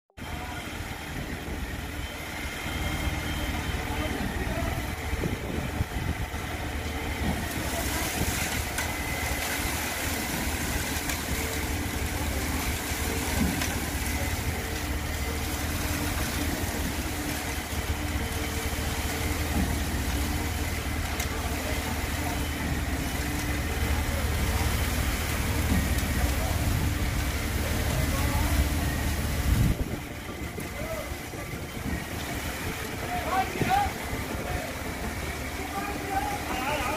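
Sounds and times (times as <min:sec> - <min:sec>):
concrete pump engine running: 0:00.2 - 0:36.9.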